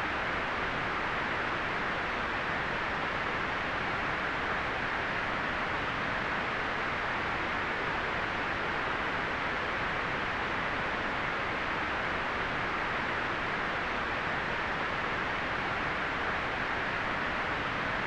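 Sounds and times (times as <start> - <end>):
steady white noise hiss: 0.0 - 18.0.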